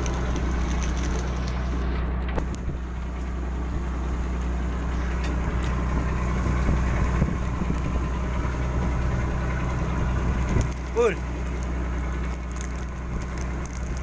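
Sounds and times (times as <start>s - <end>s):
ship machinery humming: 0.0s - 14.0s.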